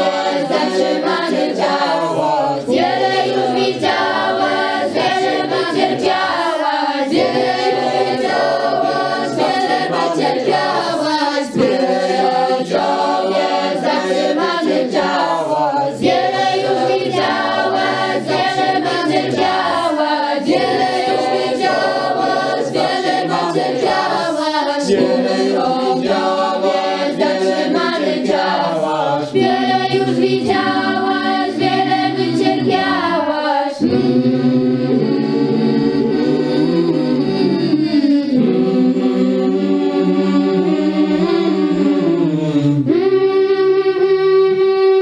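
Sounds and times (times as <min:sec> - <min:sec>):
choir singing a cappella: 0:00.0 - 0:45.0.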